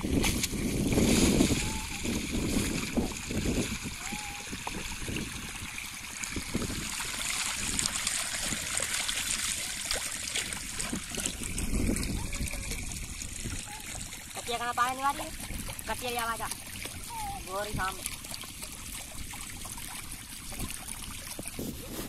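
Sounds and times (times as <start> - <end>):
water pouring from pipe splashing: 0.0 - 22.0.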